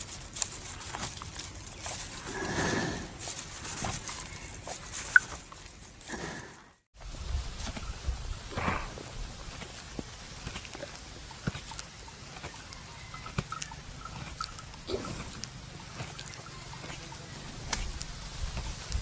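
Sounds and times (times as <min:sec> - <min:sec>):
buffalo chewing cud: 0:00.0 - 0:06.7, 0:07.4 - 0:19.0.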